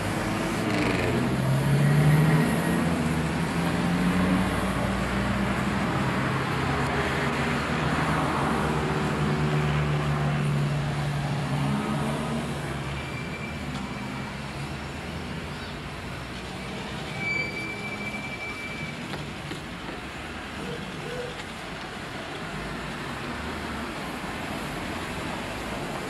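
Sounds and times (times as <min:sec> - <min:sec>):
traffic hum: 0:00.0 - 0:26.0.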